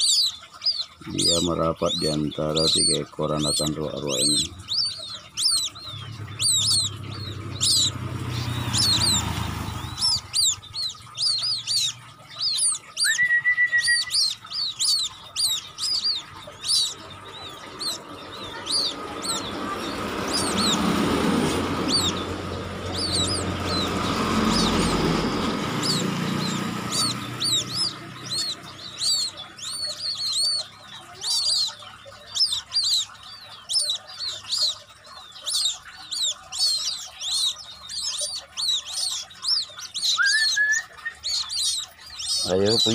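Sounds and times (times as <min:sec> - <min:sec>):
chicks peeping: 0:00.0 - 0:42.9
road traffic: 0:00.0 - 0:42.9.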